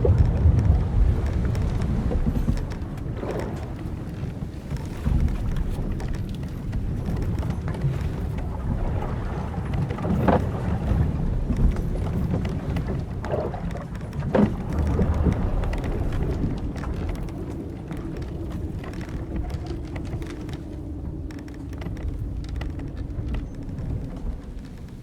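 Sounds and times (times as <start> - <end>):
wind and waves rushing: 0.0 - 25.0
wooden ship creaking: 0.0 - 25.0.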